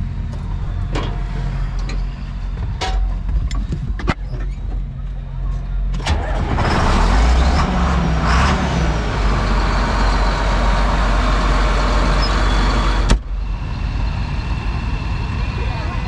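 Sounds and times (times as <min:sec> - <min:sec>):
tractor diesel engine rumbling: 0:00.0 - 0:16.0.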